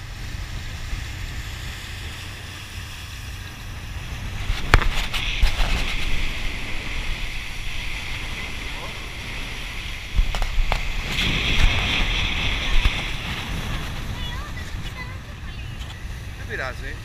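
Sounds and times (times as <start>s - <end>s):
boat engine and wind rumble: 0.0s - 17.0s
water rushing along hull: 0.0s - 17.0s.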